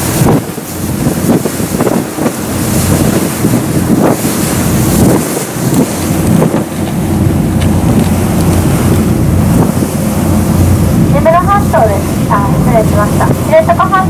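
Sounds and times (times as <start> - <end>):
boat engine drone: 0.0 - 14.0
water rushing along hull: 0.0 - 14.0
wind buffeting microphone: 0.0 - 14.0.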